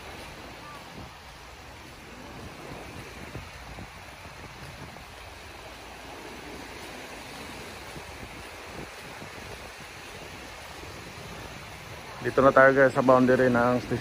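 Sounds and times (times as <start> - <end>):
small waves on sandy beach: 0.0 - 14.0.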